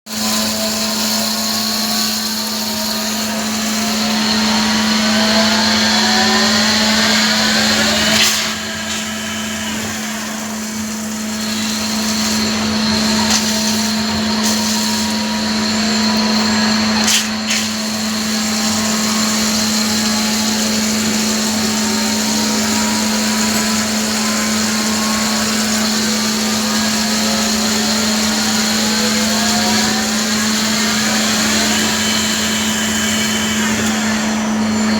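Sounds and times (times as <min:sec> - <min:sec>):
lathe running with high whine: 0:00.1 - 0:34.9.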